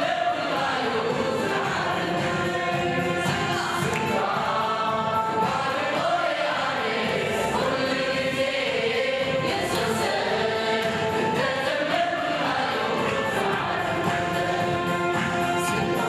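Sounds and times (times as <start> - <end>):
mixed choir singing a hymn: 0.0 - 16.0.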